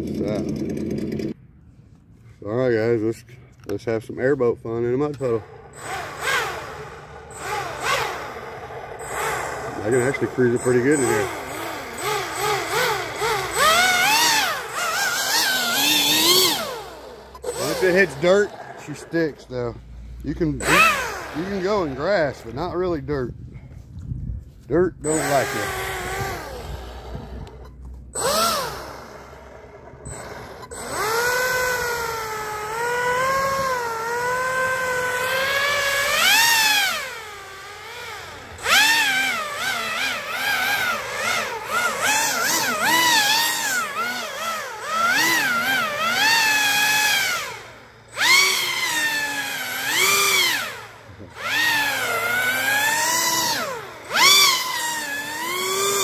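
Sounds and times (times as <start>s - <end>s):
electric motor and propeller whine: 0.0s - 1.4s, 4.7s - 56.0s.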